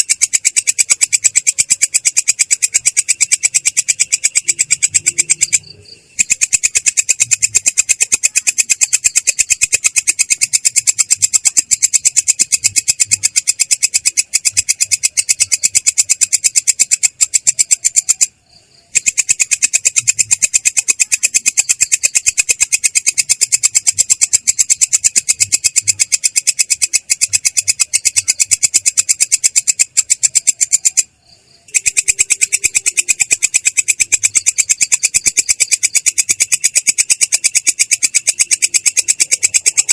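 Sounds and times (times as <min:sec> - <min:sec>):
katydid trilling: 0:00.0 - 0:39.9.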